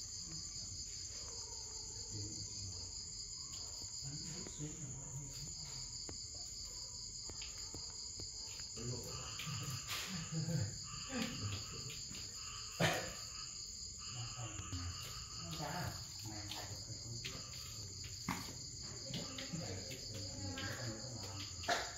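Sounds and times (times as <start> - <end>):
insects chirring: 0.0 - 21.9.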